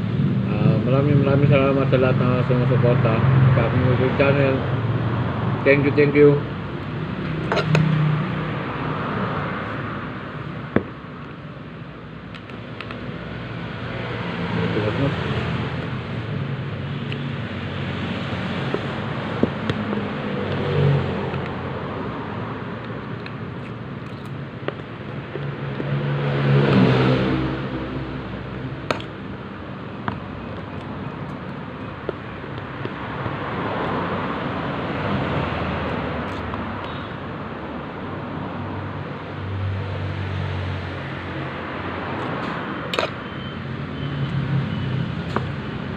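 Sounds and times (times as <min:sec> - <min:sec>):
motor vehicles passing: 0:00.0 - 0:45.9
steady traffic hum: 0:00.0 - 0:45.9.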